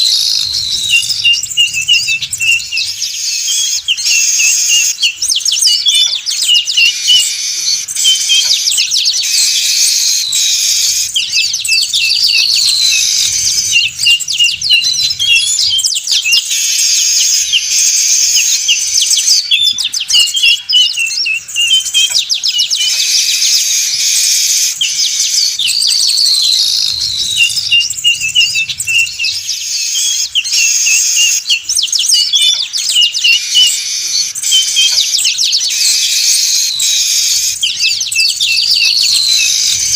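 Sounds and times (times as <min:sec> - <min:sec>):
weaver birds chattering and singing: 0:00.0 - 0:39.9.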